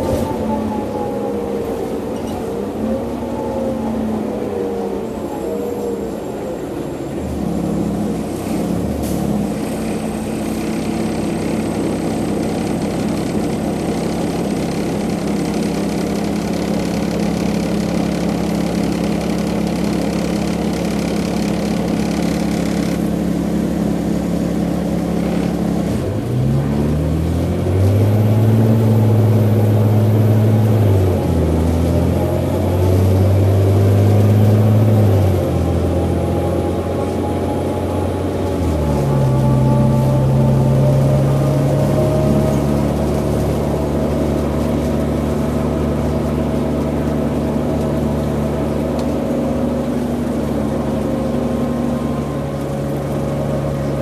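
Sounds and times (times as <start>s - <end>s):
bus diesel engine idling and revving: 0.0s - 54.0s.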